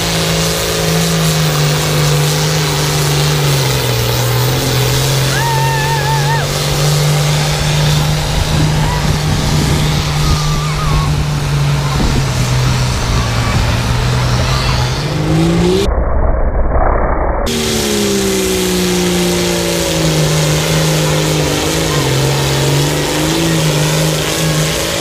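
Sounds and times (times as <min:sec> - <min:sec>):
tractor diesel engine under load: 0:00.0 - 0:15.9, 0:17.5 - 0:25.0.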